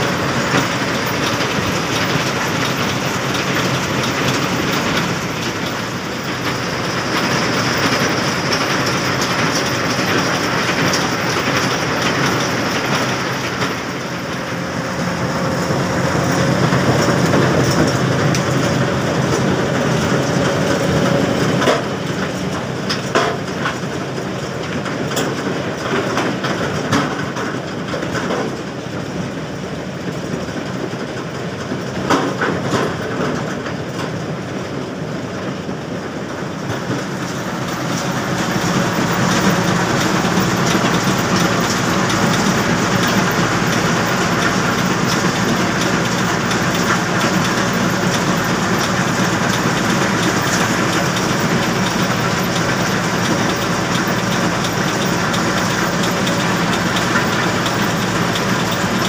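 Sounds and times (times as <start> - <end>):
crushing plant rattling and droning: 0.0 - 24.9, 35.7 - 59.0.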